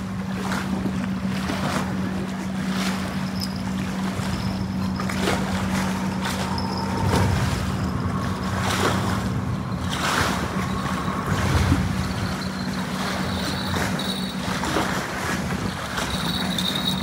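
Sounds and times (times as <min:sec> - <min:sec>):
steady motor hum: 0:00.0 - 0:17.0
wind buffeting microphone: 0:03.4 - 0:17.0.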